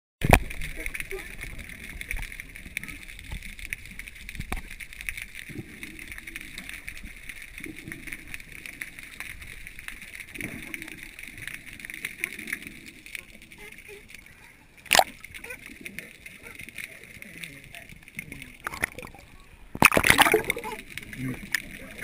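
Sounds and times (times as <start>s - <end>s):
small underwater clicks: 0.2s - 22.0s.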